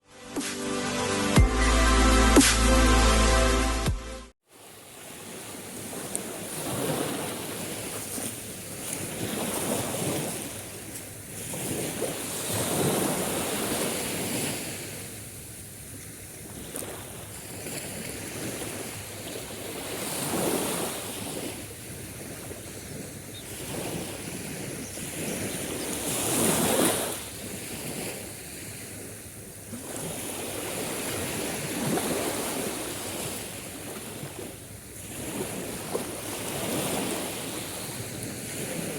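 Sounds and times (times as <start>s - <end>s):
sea waves washing onto beach: 4.6s - 38.9s.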